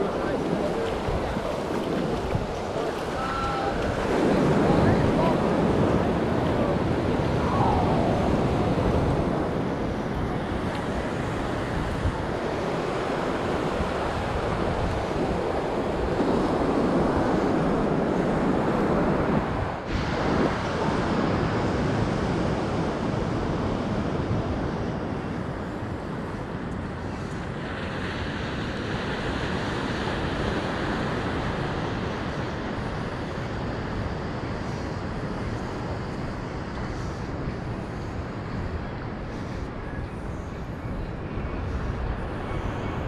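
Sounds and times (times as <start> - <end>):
ocean surf breaking on beach: 0.0 - 43.0
wind rumbling on microphone: 0.0 - 43.0.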